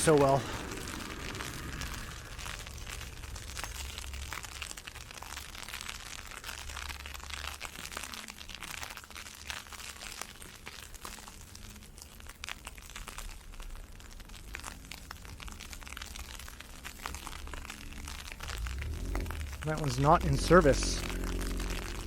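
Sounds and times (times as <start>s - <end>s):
ice pellets falling: 0.0s - 22.0s.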